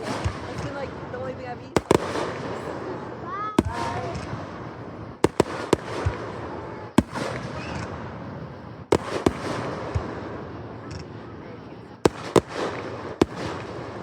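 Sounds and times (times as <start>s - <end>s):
fireworks bursting in booms: 0.0s - 14.0s.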